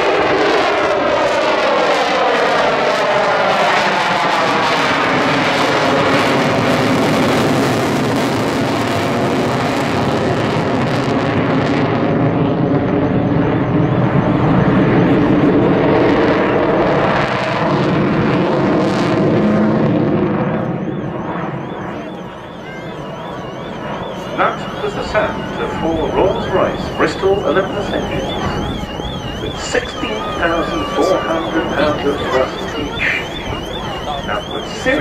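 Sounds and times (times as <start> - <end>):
jet bomber flying past: 0.0 - 35.0.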